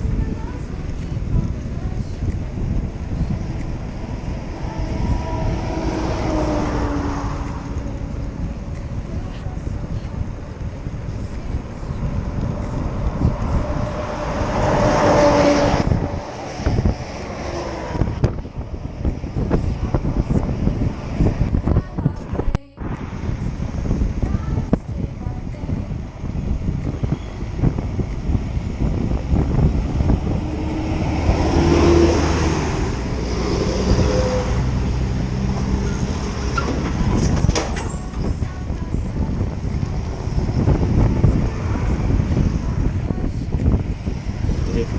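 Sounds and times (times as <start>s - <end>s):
motor vehicle passing: 0.0s - 22.1s, 25.6s - 44.9s
steady low rumble: 0.0s - 44.9s
wind buffeting microphone: 0.0s - 44.9s.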